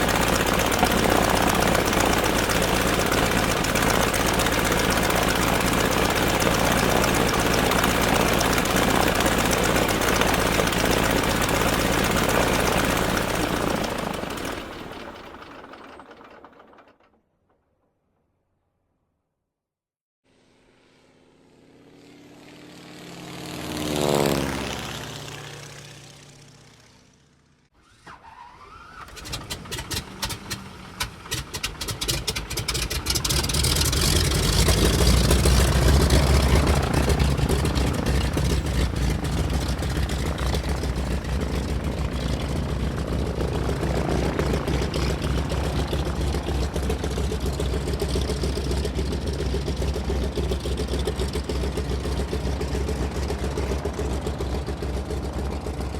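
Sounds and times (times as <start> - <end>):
aircraft passing by: 0.0 - 16.3, 20.3 - 55.9
piston aircraft engine starting: 0.0 - 17.1, 23.3 - 55.9.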